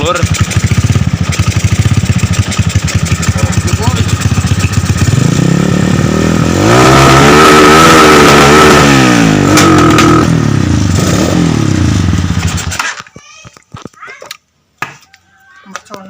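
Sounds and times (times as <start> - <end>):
motorcycle engine revving: 0.0 - 13.0
engine popping: 0.0 - 13.1.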